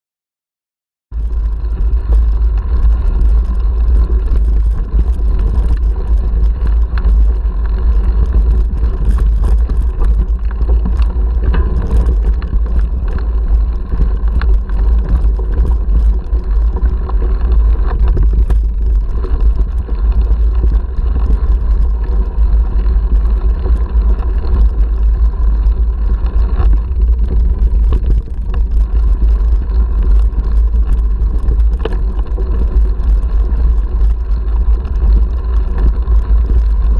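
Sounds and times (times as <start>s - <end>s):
bike rattles and knocks: 1.2s - 36.9s
tyres crunching over gravel: 1.2s - 36.9s
wind buffeting microphone: 1.2s - 36.9s.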